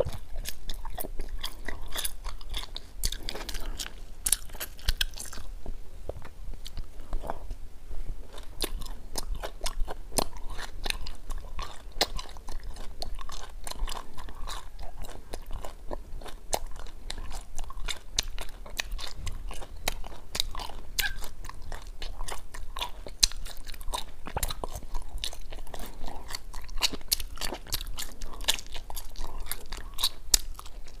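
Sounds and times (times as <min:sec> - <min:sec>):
chewing wax candy: 0:00.0 - 0:07.6, 0:08.2 - 0:31.0.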